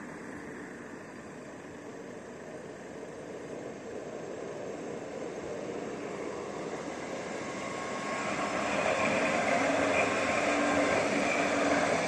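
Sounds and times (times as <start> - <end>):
steady whining tones: 0.0 - 12.0
tram wheels rolling: 0.0 - 12.0.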